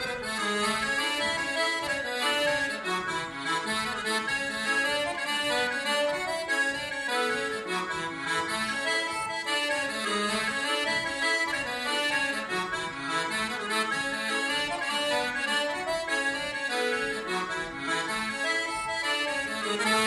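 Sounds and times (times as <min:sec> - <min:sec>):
solo accordion tune: 0:00.0 - 0:20.0.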